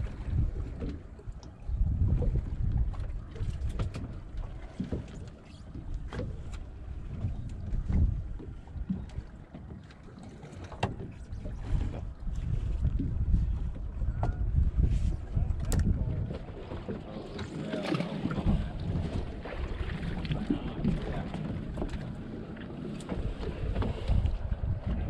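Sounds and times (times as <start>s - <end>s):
wind gusting over microphone: 0.0s - 1.0s, 1.6s - 4.8s, 6.0s - 9.2s, 11.0s - 22.3s, 23.1s - 25.0s
water against hull: 0.0s - 25.0s.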